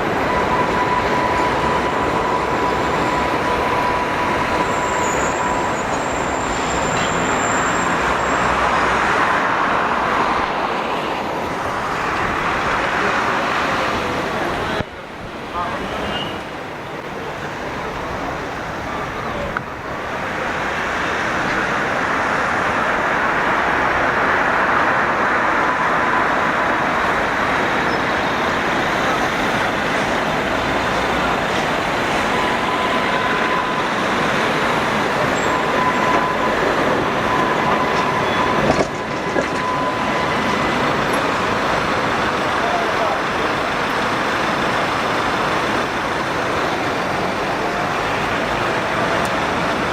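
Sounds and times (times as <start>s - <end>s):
tram wheels rumbling on rail: 0.0s - 49.9s.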